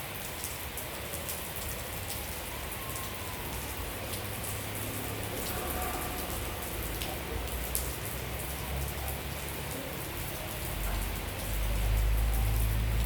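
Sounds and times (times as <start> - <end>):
rain falling: 0.0 - 13.0
raindrops ticking: 0.1 - 13.0.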